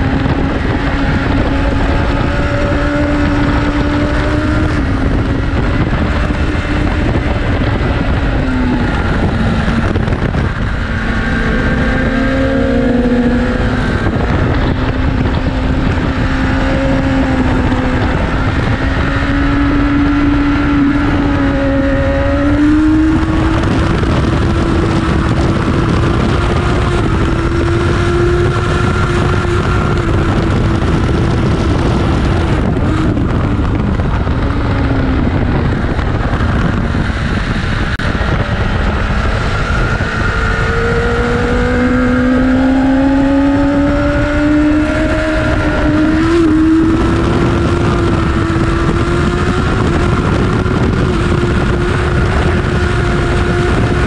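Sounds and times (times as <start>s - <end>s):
motorcycle engine at speed: 0.0s - 54.0s
wind rush over microphone: 0.0s - 54.0s.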